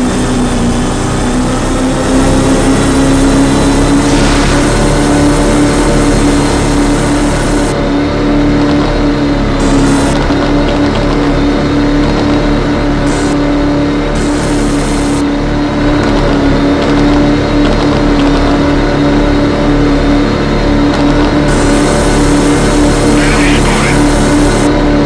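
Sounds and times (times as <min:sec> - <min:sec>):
car engine running loudly: 0:00.0 - 0:25.0.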